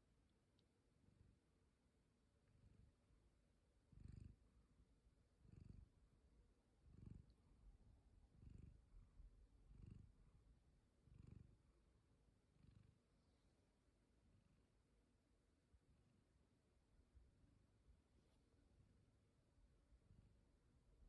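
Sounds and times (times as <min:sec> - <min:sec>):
cat purring softly: 0:00.0 - 0:21.0.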